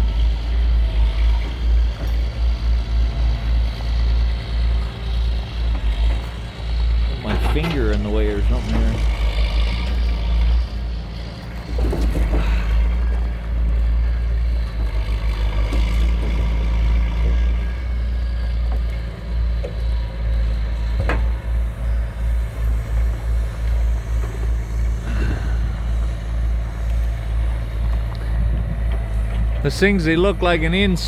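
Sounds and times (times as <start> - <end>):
diesel truck engine running: 0.0 - 31.0
logs being unloaded: 0.0 - 31.0.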